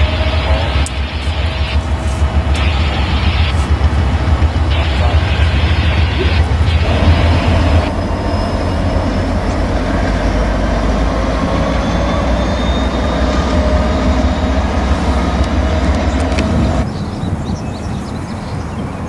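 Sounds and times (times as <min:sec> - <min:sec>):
freight train rumbling on tracks: 0:00.0 - 0:19.0.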